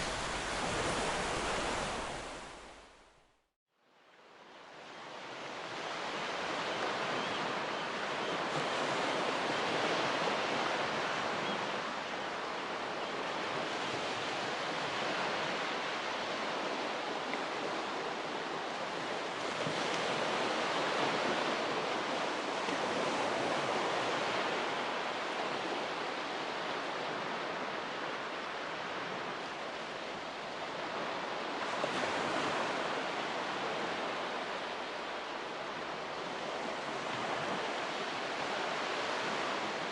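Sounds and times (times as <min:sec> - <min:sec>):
ocean waves breaking on beach: 0:00.0 - 0:03.0, 0:04.2 - 0:39.9
wind: 0:00.0 - 0:39.9.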